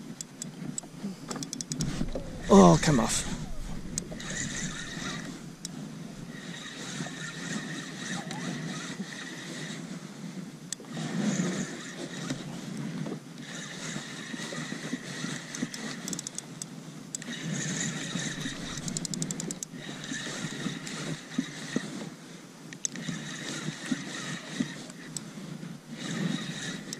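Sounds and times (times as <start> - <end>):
fishing reel gears whirring: 0.0 - 22.2, 22.8 - 26.9
reel quick clicks: 0.1 - 9.8, 13.4 - 22.1, 22.7 - 26.9.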